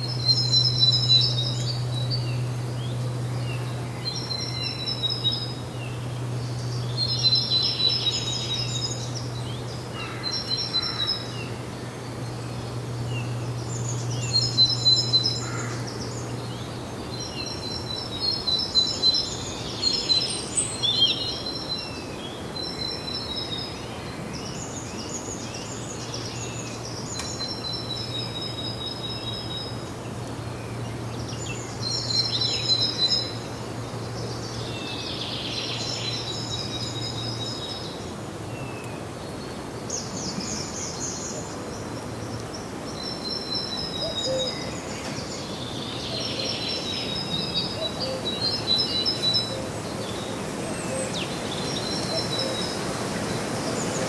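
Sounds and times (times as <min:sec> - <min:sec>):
songbirds singing: 0:00.0 - 0:54.0
steady background hiss: 0:00.0 - 0:54.0.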